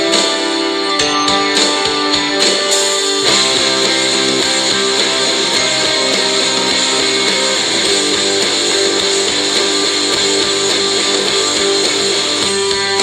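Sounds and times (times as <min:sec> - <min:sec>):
guitar-led band song: 0:00.0 - 0:13.0.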